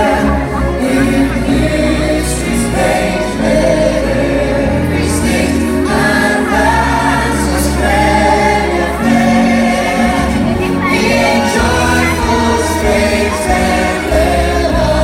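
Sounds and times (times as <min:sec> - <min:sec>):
choir singing: 0:00.0 - 0:15.0
steady bass line: 0:00.0 - 0:15.0.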